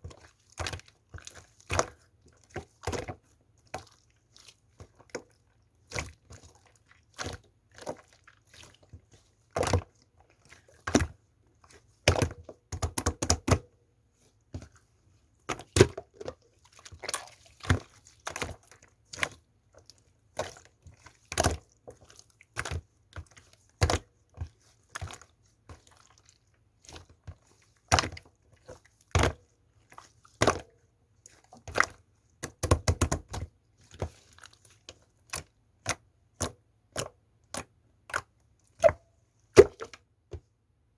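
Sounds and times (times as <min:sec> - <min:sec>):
hands squishing slime: 0:00.0 - 0:40.4.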